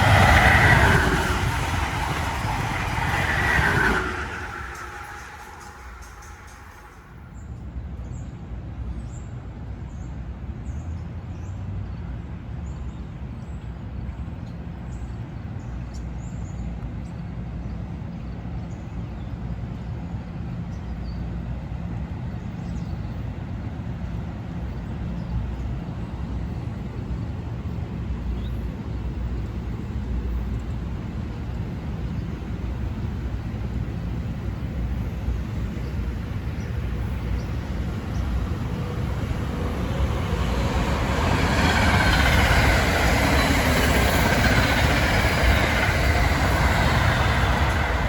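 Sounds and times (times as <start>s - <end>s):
train rumbling by: 0.0s - 12.7s, 13.4s - 48.0s.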